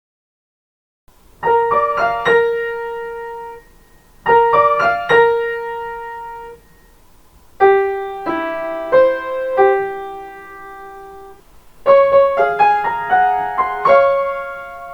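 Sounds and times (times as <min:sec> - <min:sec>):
piano melody: 0:01.4 - 0:07.0, 0:07.6 - 0:14.9.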